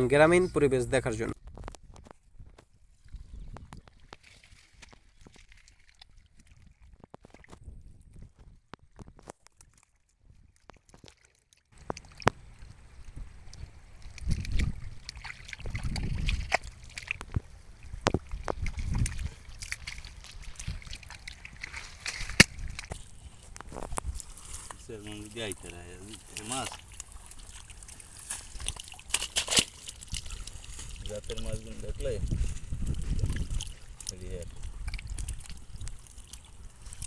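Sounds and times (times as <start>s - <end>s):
water sloshing and splashing: 0.0s - 37.0s.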